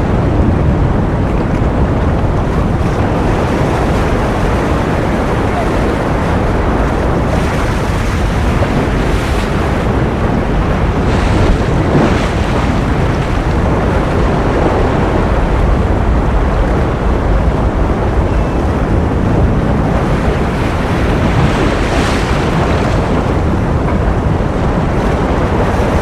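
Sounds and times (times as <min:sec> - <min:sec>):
ocean waves washing: 0:00.0 - 0:26.0.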